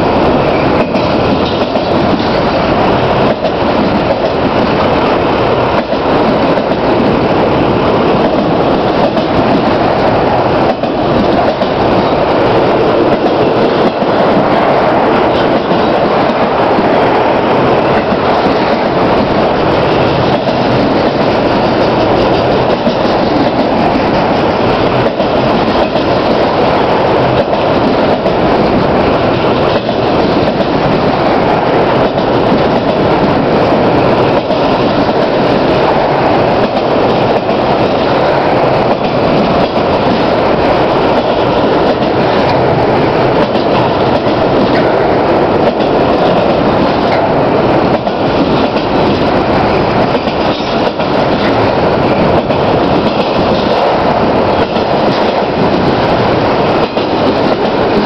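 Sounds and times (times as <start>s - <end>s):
steel wheels rumbling on rail: 0.0s - 58.0s
wheels clicking over rail joints: 0.2s - 58.0s.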